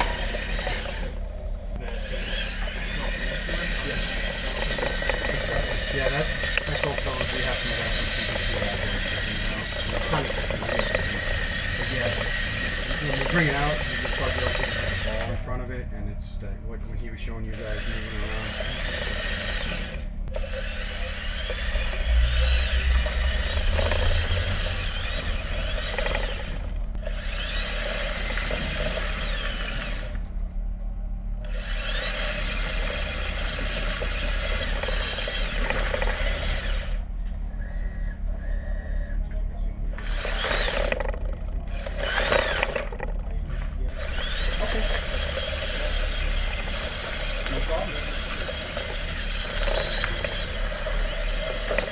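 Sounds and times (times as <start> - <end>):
electric motors whining: 0.0 - 51.9
steady low hum: 0.0 - 51.9.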